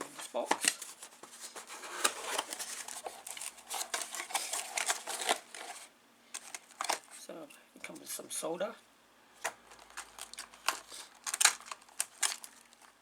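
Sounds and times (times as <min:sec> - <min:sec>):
packaging rustling: 0:00.0 - 0:07.2, 0:09.4 - 0:13.0.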